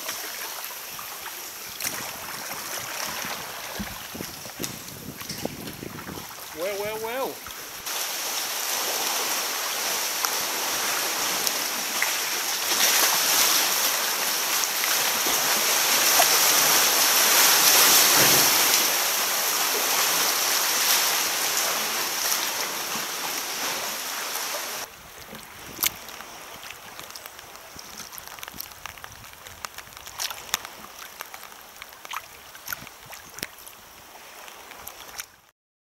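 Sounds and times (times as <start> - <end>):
water lapping: 0.0 - 35.4
sea water rushing around rocks: 0.0 - 35.5
sharp splashes and drips: 0.0 - 35.5.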